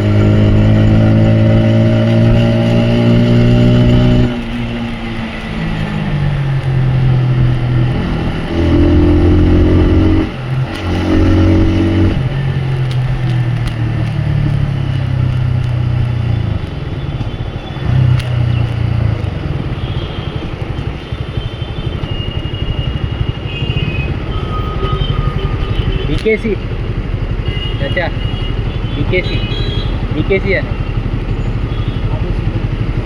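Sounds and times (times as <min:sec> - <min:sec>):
motorcycle engine revving: 0:00.0 - 0:33.0
road noise: 0:00.0 - 0:33.0.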